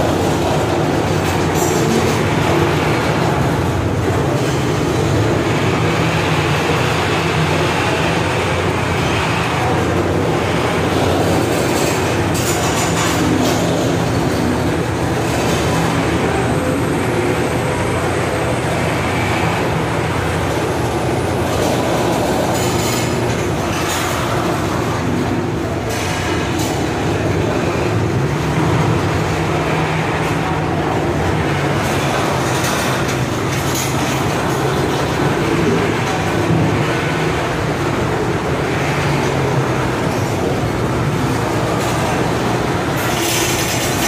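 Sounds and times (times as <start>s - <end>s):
steel wheels rumbling on rail: 0.0s - 44.0s.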